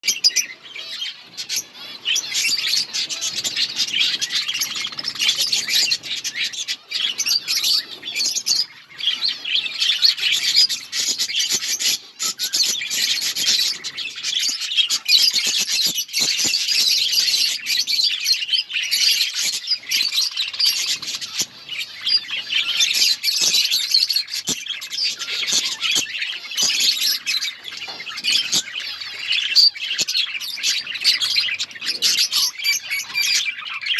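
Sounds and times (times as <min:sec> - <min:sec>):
budgerigar flock chattering: 0:00.0 - 0:33.9.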